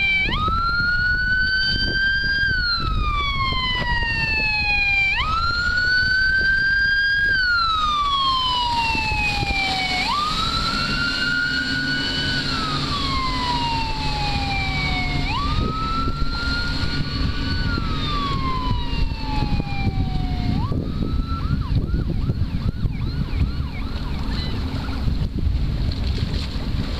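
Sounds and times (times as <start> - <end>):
siren wailing: 0.0 - 25.4
wind buffeting microphone: 0.0 - 26.9.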